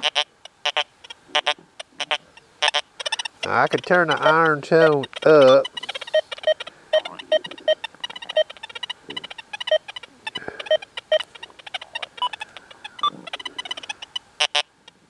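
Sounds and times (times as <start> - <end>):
scattered clicks: 1.4 - 15.0.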